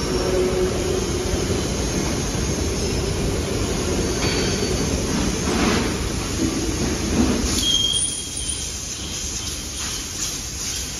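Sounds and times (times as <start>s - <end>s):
factory machinery noise: 0.0s - 10.9s.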